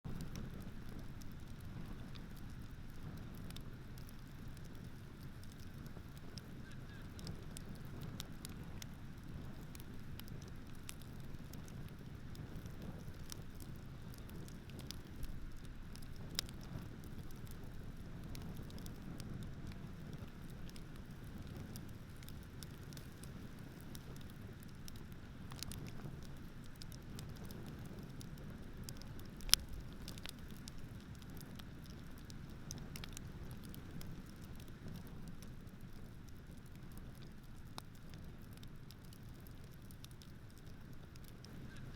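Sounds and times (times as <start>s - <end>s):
campfire crackling and popping: 0.1s - 41.9s.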